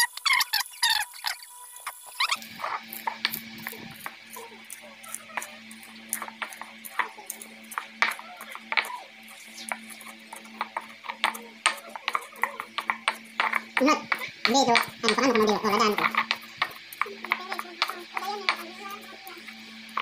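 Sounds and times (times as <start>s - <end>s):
stone pestle pounding in mortar: 2.9s - 19.0s.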